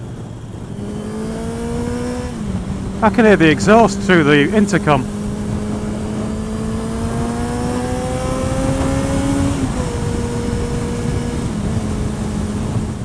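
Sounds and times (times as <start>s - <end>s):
wind rushing over microphone: 0.0s - 13.0s
motorcycle engine accelerating: 0.3s - 13.0s.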